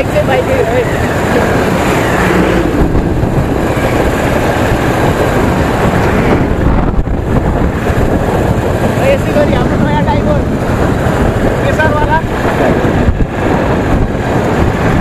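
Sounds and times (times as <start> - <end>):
motorcycle engine: 0.0 - 15.0
road noise: 0.0 - 15.0
wind rushing on microphone: 0.0 - 15.0.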